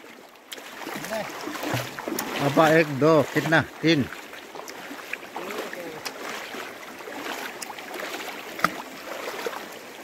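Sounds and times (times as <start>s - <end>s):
river current rushing: 0.0s - 10.0s
light splashes and knocks of net: 0.5s - 3.6s, 4.2s - 9.7s.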